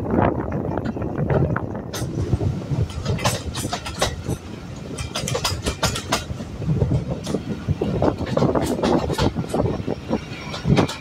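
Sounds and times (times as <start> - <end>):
train wheels clicking over rail joints: 0.4 - 11.0.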